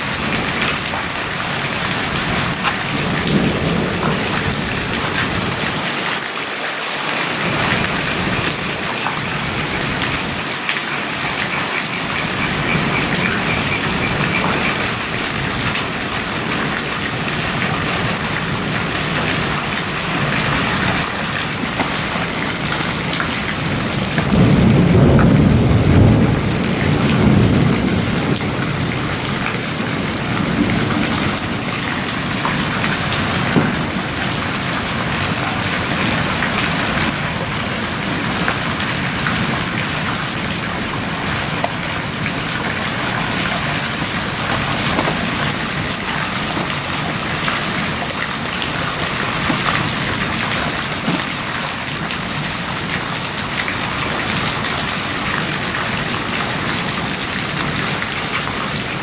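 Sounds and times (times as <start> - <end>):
thunder rumbling: 0.0 - 6.0, 7.4 - 53.2
steady rain: 0.0 - 59.0.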